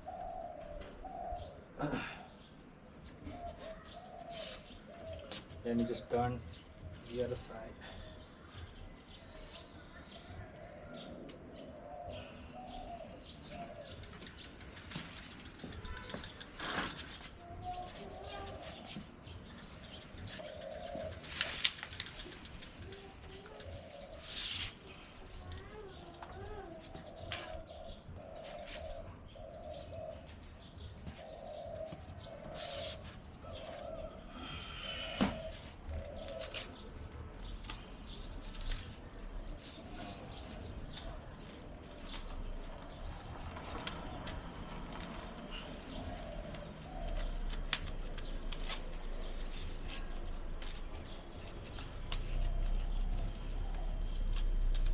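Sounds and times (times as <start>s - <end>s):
pigeons cooing: 0.0s - 8.3s, 9.8s - 54.9s.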